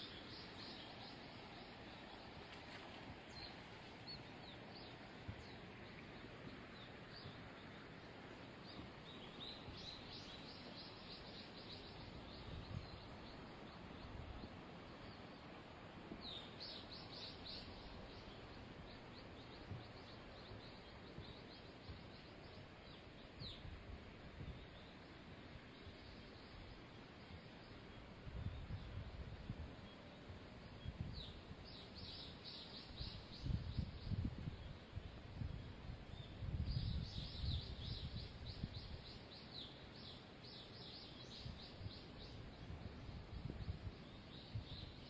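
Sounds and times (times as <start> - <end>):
faint birds chirping: 0.0 - 45.0
low outdoor hiss: 0.0 - 45.0.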